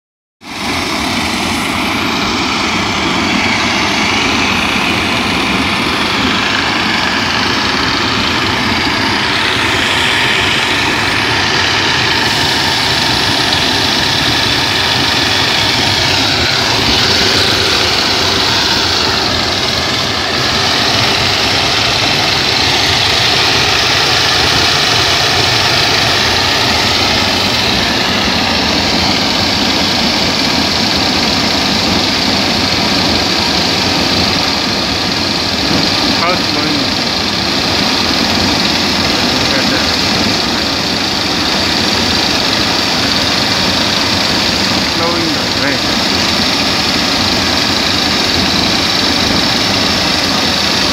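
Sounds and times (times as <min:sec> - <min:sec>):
burner flame roaring: 0:00.4 - 0:50.9
electric air blower: 0:00.5 - 0:50.9.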